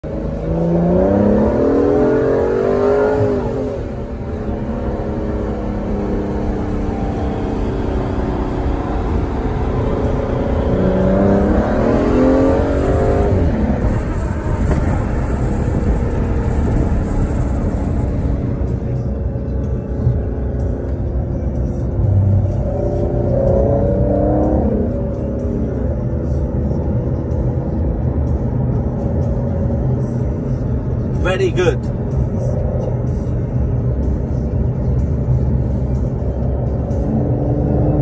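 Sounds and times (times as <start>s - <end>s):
car engine accelerating: 0.0s - 38.0s
low road rumble: 0.0s - 38.0s.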